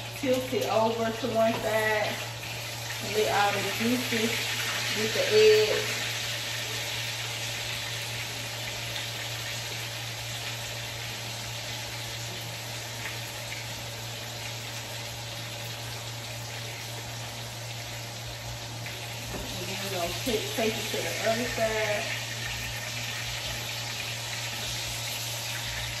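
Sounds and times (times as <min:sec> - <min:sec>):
steak sizzling in a frying pan: 0:00.0 - 0:26.0.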